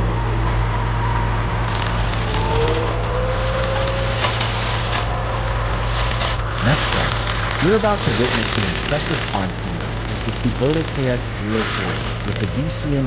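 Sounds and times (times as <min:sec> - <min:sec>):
heavy machine engine running: 0:00.0 - 0:13.0
crackling and snapping: 0:01.3 - 0:13.0.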